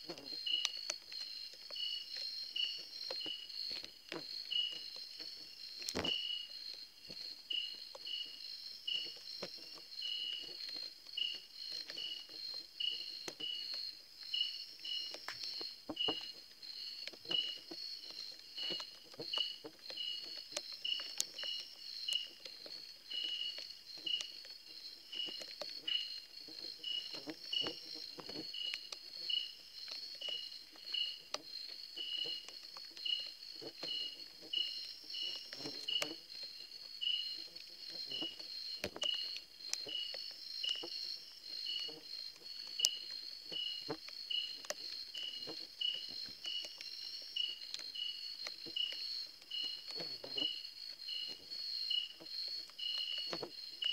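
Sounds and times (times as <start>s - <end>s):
crickets trilling: 0.0s - 53.9s
insect chirping in pulses: 0.0s - 53.9s.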